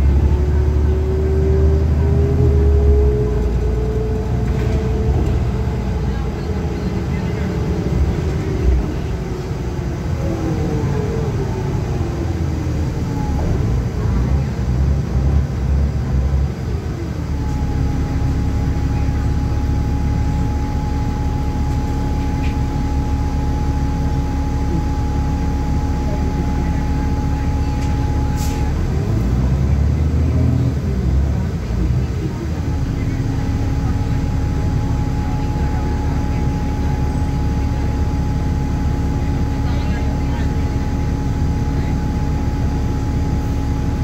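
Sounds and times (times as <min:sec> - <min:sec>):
bus diesel engine: 0:00.0 - 0:44.0.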